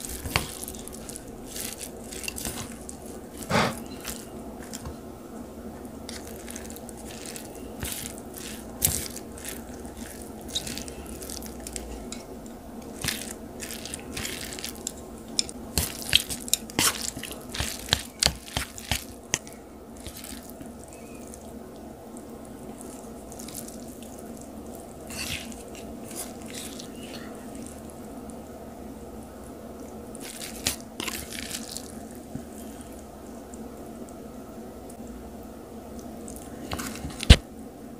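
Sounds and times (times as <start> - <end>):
chopsticks squishing noodles: 0.0 - 34.2, 35.8 - 37.4
faint steady hum: 0.0 - 37.9.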